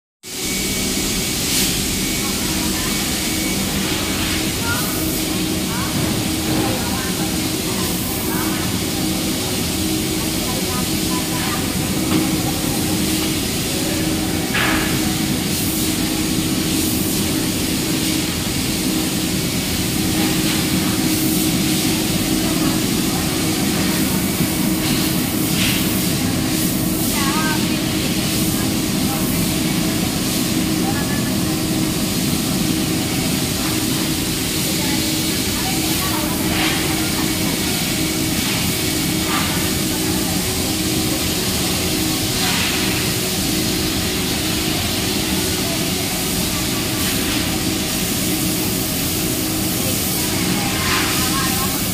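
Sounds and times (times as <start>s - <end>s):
cooling fans whirring: 0.2s - 51.9s.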